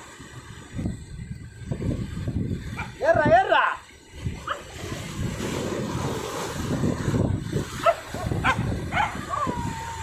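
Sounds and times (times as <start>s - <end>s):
sea surf breaking: 0.0s - 10.0s.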